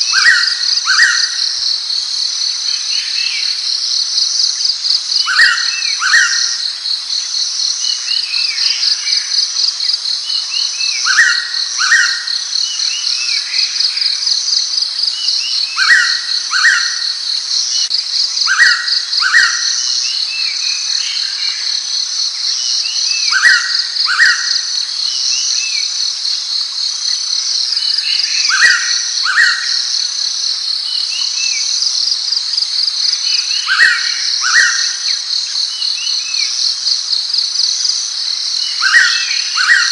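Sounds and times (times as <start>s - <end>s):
insect chirring: 0.0s - 39.9s.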